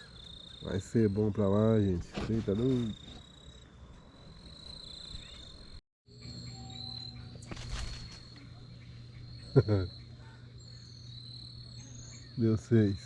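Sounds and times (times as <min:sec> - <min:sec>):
insects trilling: 0:00.0 - 0:13.0
low steady hum: 0:00.0 - 0:13.0.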